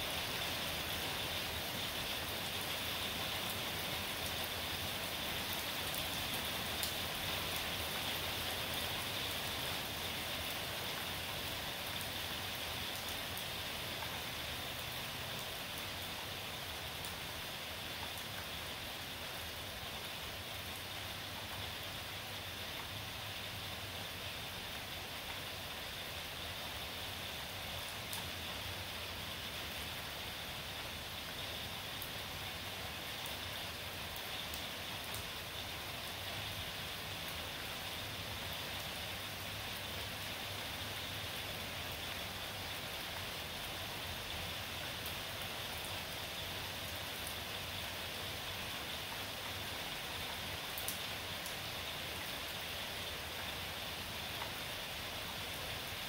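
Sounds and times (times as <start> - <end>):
raindrops ticking close by: 0.0 - 56.0
steady rain hiss: 0.0 - 56.0.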